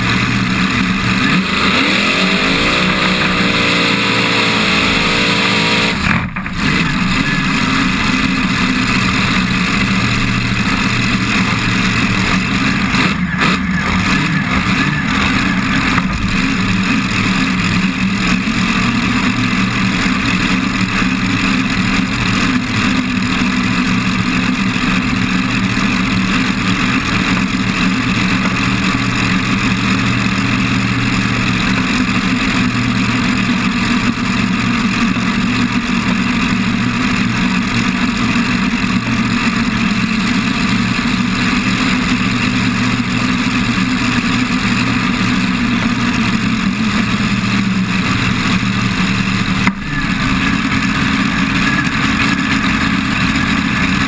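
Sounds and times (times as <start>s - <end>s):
engine idling up close: 5.7s - 54.0s.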